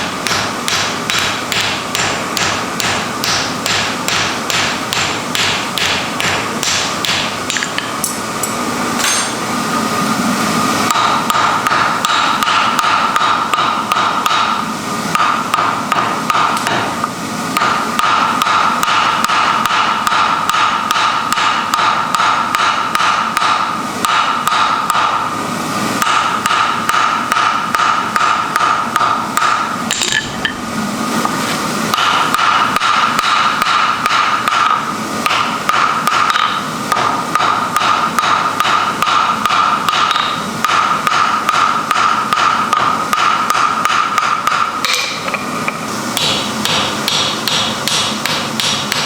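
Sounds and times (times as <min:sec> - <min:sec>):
steady high hum: 0:00.0 - 0:49.0.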